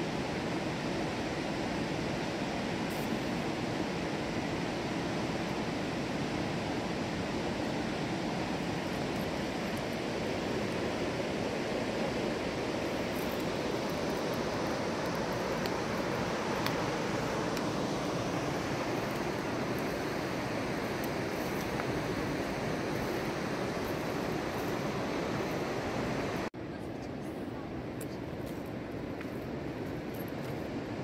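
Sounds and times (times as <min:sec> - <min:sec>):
river rushing over rocks: 0:00.0 - 0:26.5.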